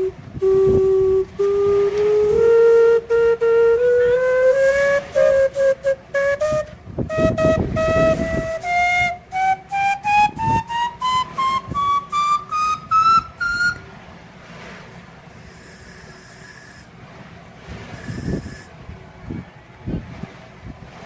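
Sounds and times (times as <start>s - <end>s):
faint hiss: 0.0s - 19.2s.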